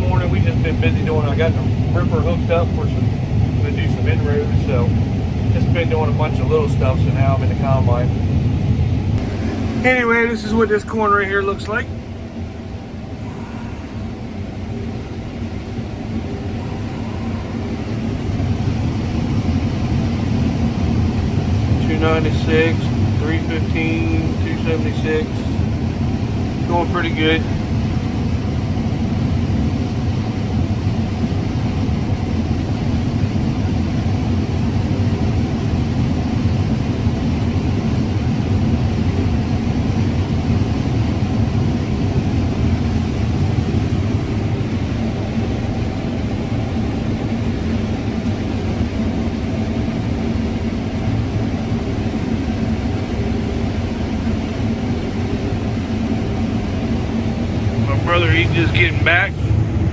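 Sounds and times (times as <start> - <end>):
combine harvester rumble: 0.0 - 59.9
faint engine hum: 0.0 - 59.9.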